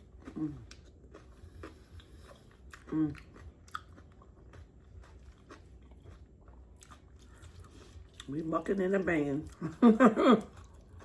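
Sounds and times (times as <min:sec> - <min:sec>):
chewing and mouth smacking: 0:00.0 - 0:08.5, 0:10.4 - 0:11.0.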